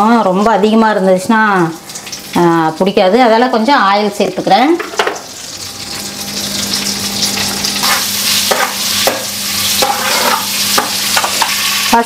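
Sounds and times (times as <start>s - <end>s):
butter and oil sizzling: 0.0s - 12.0s.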